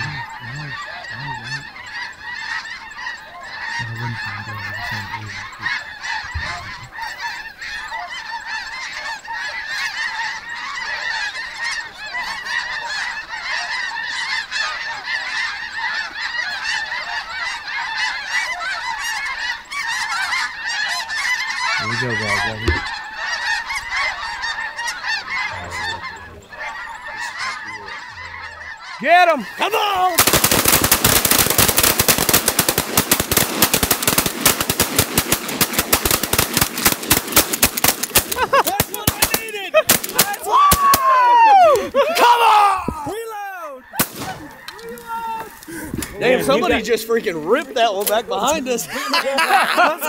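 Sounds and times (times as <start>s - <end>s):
snow geese honking: 0.0s - 50.0s.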